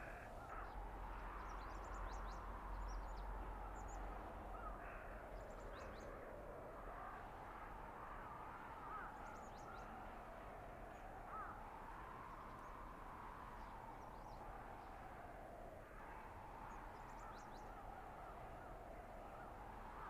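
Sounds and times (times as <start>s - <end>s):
wind howling and whistling: 0.0s - 20.0s.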